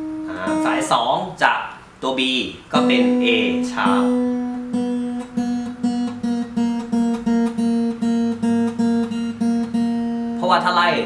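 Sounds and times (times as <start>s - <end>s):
acoustic guitar string plucked: 0.0s - 0.9s, 2.7s - 11.0s.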